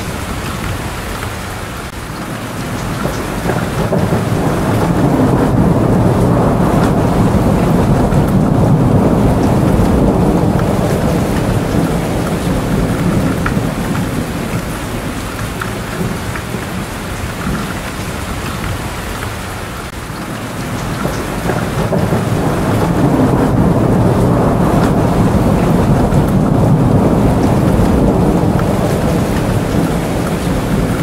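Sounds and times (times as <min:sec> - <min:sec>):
rolling thunder rumble: 0:00.0 - 0:31.0
steady rain: 0:00.0 - 0:31.0
raindrop ticks: 0:00.4 - 0:31.0.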